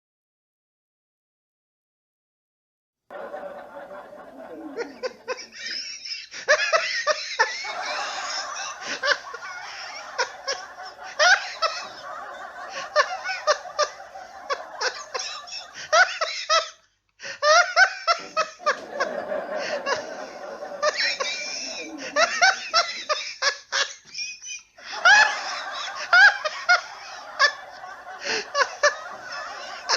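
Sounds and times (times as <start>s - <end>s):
audience laughing: 3.1s - 16.8s, 17.4s - 29.9s
man laughing heartily: 3.1s - 29.9s.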